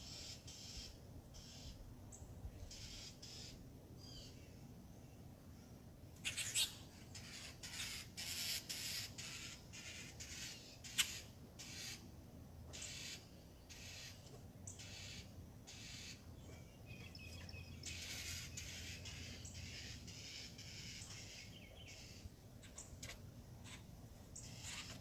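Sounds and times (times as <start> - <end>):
birds making harsh raspy calls: 0.0 - 1.9, 2.6 - 4.4, 6.2 - 12.1, 12.7 - 25.0.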